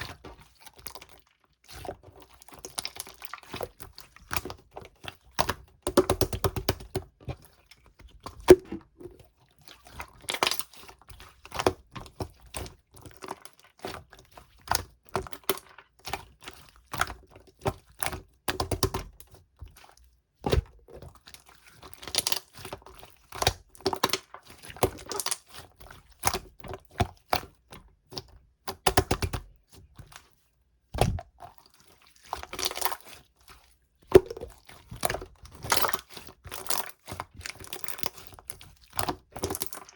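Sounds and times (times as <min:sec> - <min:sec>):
slime squelching with sticky pops: 0:00.1 - 0:39.9.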